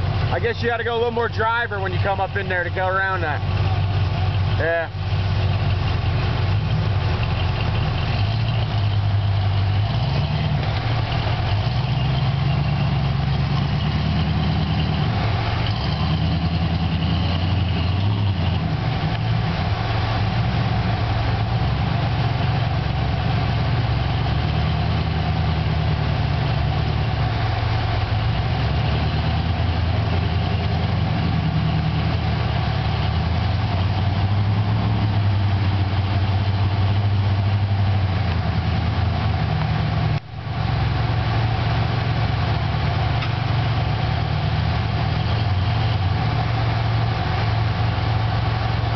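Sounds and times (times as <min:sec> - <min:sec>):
engine running at low revs: 0:00.0 - 0:48.9.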